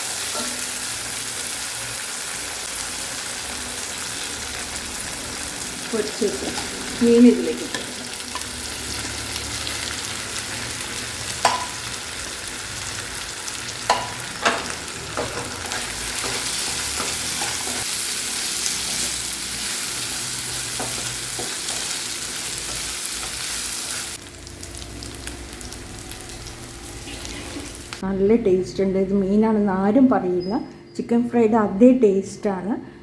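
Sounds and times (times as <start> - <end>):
fish sizzling in a pan: 0.0 - 28.0.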